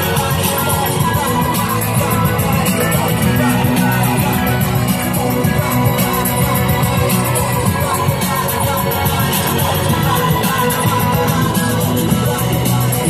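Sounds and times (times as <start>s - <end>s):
guitar-led rock music: 0.0s - 13.0s.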